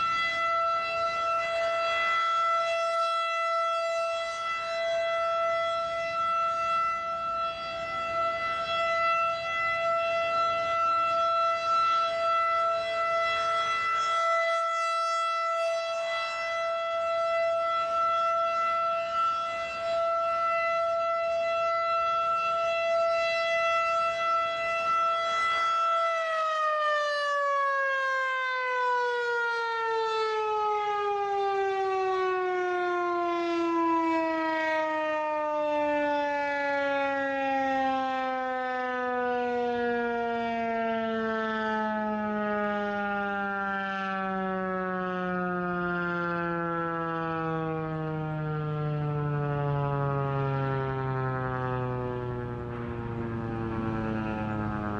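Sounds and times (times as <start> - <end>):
warning siren steady tone: 0.0 - 54.9.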